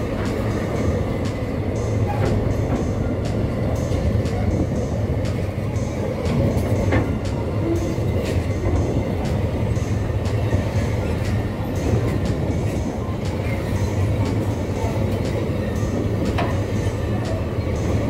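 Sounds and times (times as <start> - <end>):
train wheels rumbling on rail: 0.0 - 18.0
wheels clacking over rail joints: 0.0 - 18.0.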